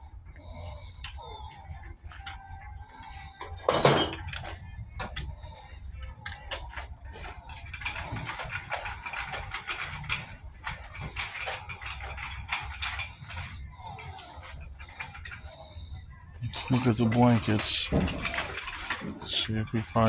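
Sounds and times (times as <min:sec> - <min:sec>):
steady low hum: 0:00.0 - 0:20.0
shopping cart rattling: 0:03.2 - 0:20.0.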